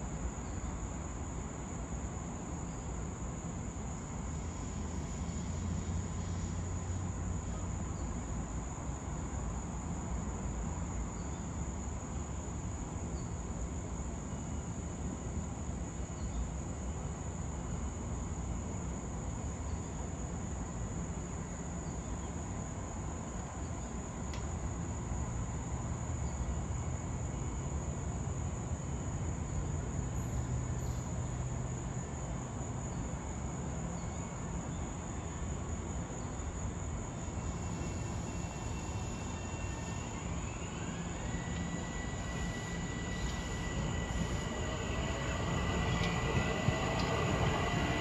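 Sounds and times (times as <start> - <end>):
insects trilling: 2.0 - 48.0.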